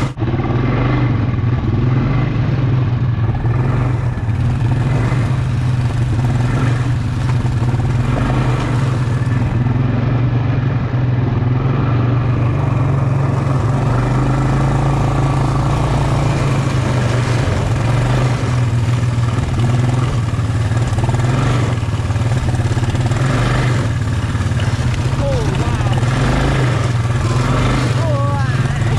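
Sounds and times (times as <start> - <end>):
quad bike engine running: 0.0 - 28.9.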